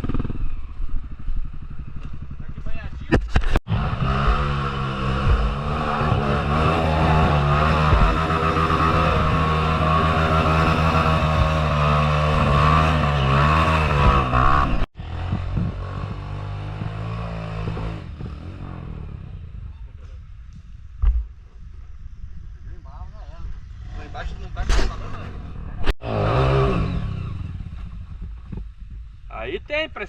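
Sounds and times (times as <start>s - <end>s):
motorcycle engine revving: 0.0s - 20.3s, 24.8s - 29.2s.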